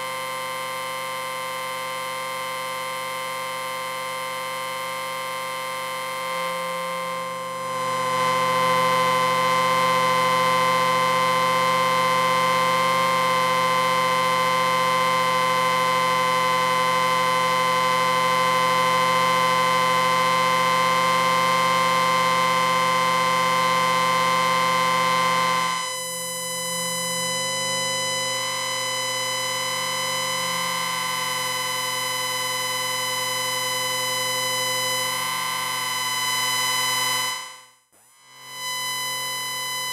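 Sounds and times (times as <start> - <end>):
electronic amplifier whine: 0.0 - 39.9.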